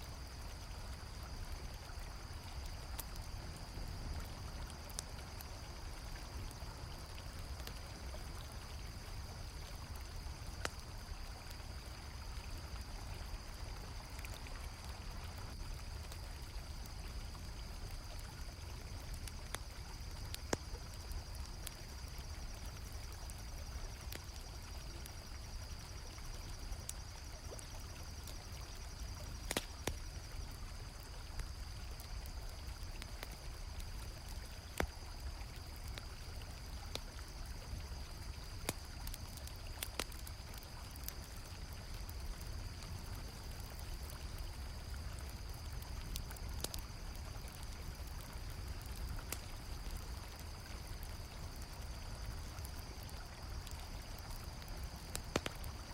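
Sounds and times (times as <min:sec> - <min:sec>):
campfire crackling: 0:00.0 - 0:55.9
crickets chirring: 0:00.0 - 0:55.9.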